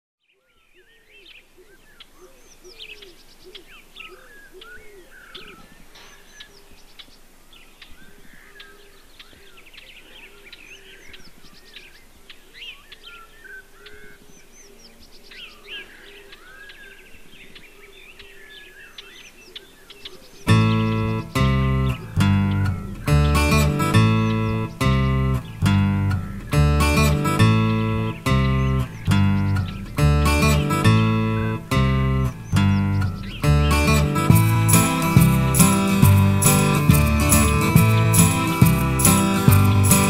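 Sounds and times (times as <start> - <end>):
wild birds chirping and warbling: 0.2 - 40.0.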